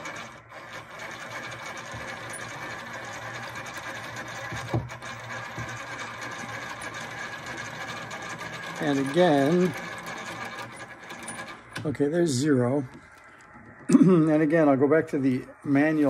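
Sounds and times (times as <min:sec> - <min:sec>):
mechanical whirr of cranked inductor: 0:00.0 - 0:13.7.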